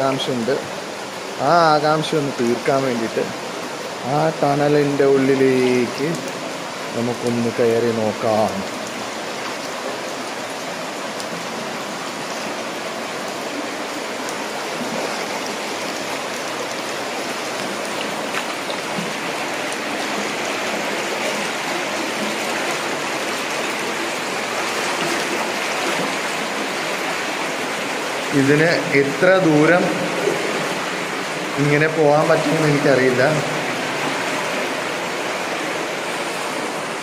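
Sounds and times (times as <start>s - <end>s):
water rushing through tunnel: 0.0s - 37.0s.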